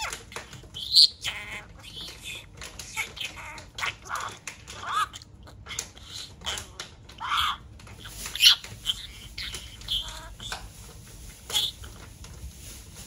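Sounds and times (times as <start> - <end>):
budgerigar chattering: 0.0 - 10.6.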